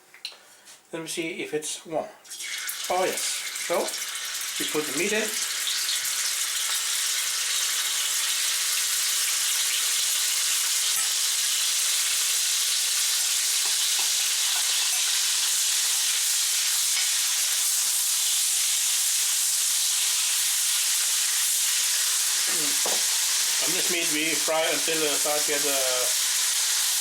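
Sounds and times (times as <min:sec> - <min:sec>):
pork sizzling in oil: 0:02.3 - 0:27.0.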